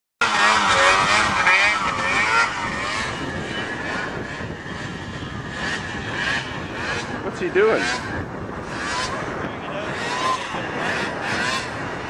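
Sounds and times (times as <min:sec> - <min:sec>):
snowmobile engine revving: 0:00.2 - 0:12.0.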